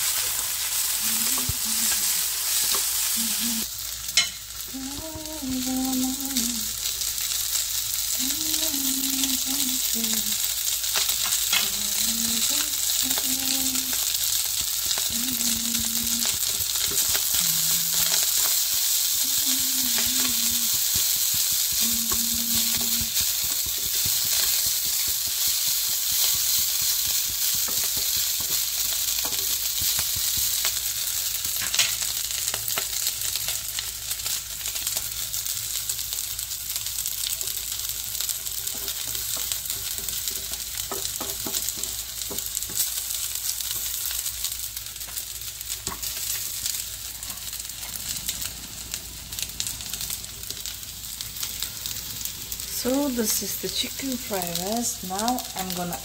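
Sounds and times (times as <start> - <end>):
rice sizzling in a pan: 0.0 - 56.0.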